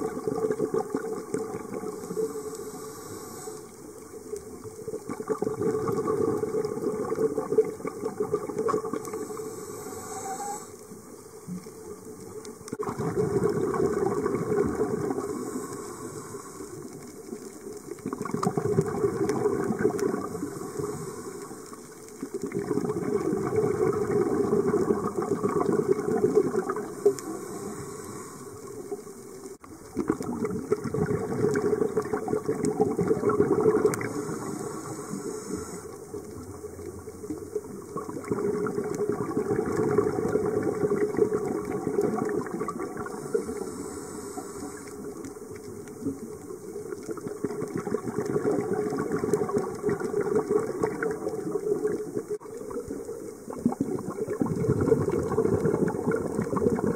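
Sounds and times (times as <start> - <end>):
scuba regulator exhaled bubbles: 0.0 - 11.7, 12.7 - 56.9.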